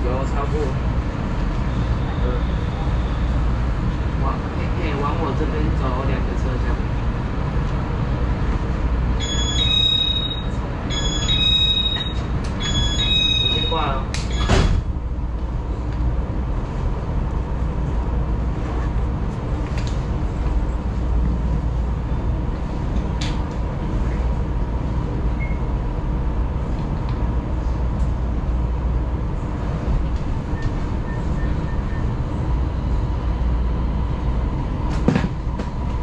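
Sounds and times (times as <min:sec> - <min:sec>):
steady hum: 0:00.0 - 0:36.0
train wheels rumbling on rail: 0:00.0 - 0:36.0.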